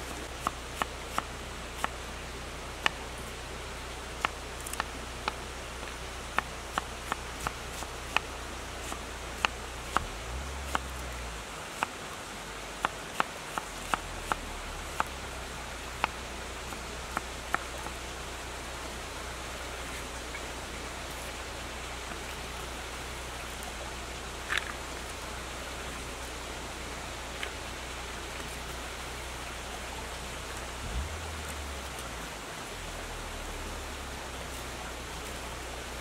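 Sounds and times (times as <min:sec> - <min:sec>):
river rushing: 0:00.0 - 0:36.0.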